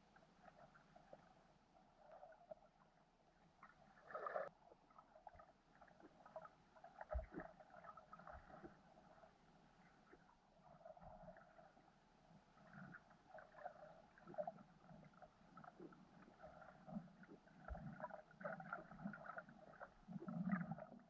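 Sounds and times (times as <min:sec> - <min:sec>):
muffled water noise: 0:00.0 - 0:21.0
water gurgle: 0:00.0 - 0:21.0.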